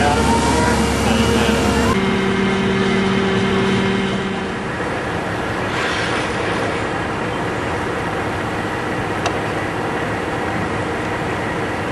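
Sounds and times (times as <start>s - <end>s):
engine running: 0.0s - 11.9s.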